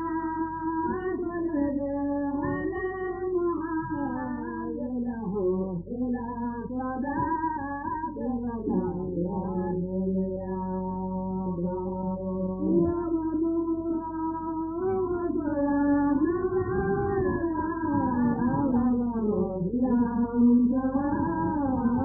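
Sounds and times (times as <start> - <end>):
low steady hum: 0.0 - 22.0
slow devotional chanting: 0.0 - 22.0.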